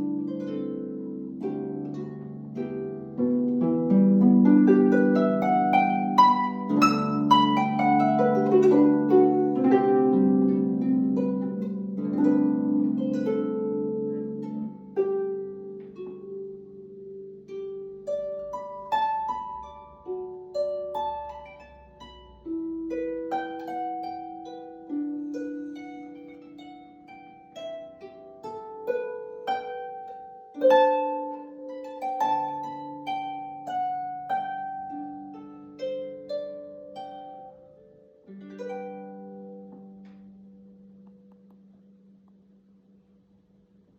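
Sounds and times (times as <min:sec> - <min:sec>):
solo harp playing: 0:00.0 - 0:43.9.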